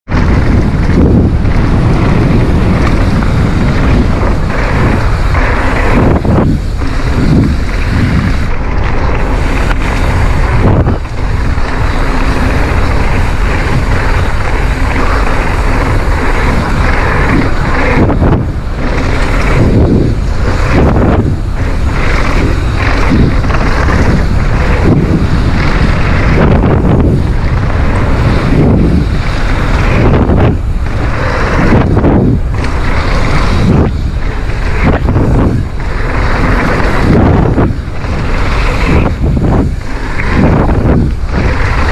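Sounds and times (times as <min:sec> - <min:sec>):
wind rushing over microphone: 0:00.0 - 0:41.9
bike knocks and rattles on bumps: 0:00.1 - 0:41.9.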